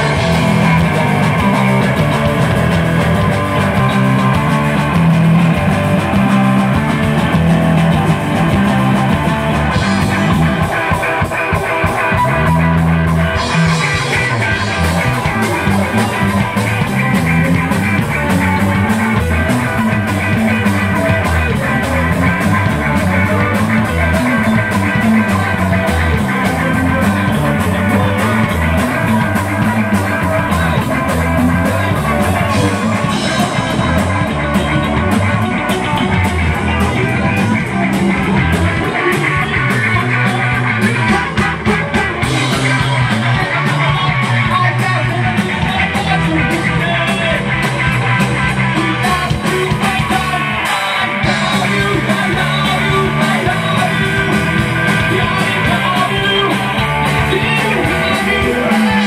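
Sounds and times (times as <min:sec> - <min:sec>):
drum kit: 0:00.0 - 0:59.0
electric bass: 0:00.0 - 0:59.0
electric guitar: 0:00.0 - 0:59.0.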